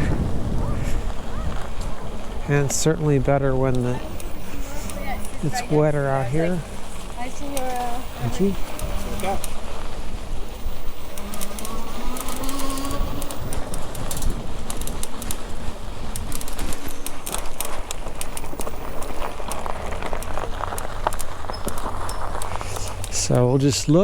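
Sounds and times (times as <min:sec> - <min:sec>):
steady rumble: 0:00.0 - 0:24.0
wind buffeting microphone: 0:00.0 - 0:24.0
bicycle clicks and rattles: 0:01.0 - 0:24.0.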